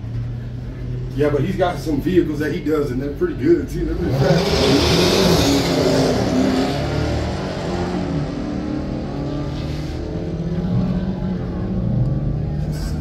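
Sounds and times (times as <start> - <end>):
cars racing at full throttle: 0.0 - 13.0.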